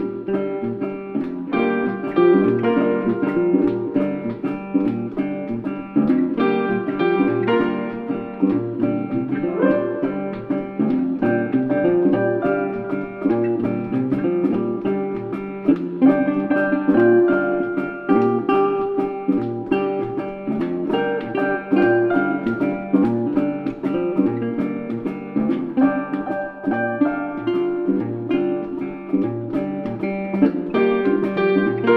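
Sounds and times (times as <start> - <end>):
plucked guitar music: 0.0 - 31.9.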